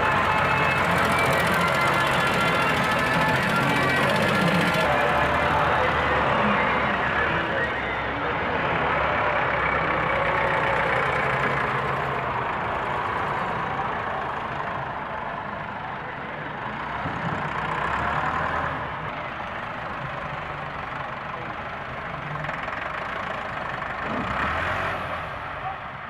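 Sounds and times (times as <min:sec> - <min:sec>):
diesel engine working: 0:00.0 - 0:26.0.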